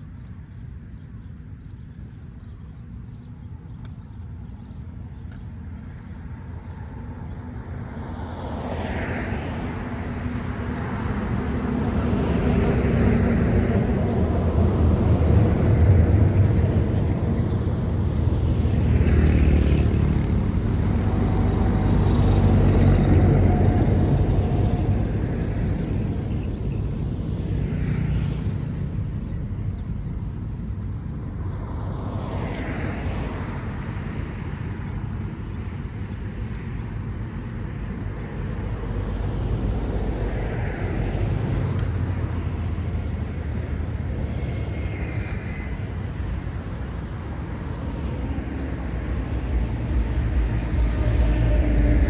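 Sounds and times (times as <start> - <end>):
low traffic rumble: 0.0 - 52.0
vehicles passing: 0.0 - 52.0.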